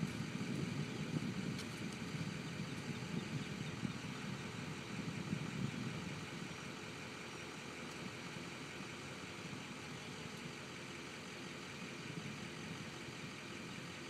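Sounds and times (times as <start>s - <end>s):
airboat engine and propeller: 0.0s - 14.0s.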